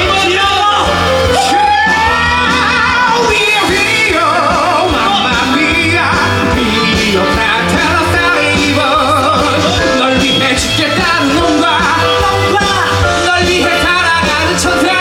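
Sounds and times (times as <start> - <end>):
band accompaniment with bass line: 0.0 - 15.0
person singing with vibrato: 0.0 - 15.0.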